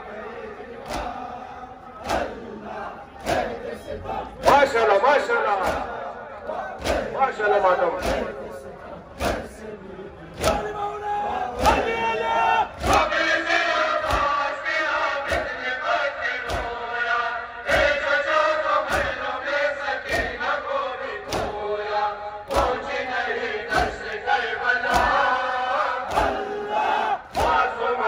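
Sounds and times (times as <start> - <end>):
crowd chanting a lament: 0.0 - 28.0
rhythmic chest-beating: 0.0 - 28.0.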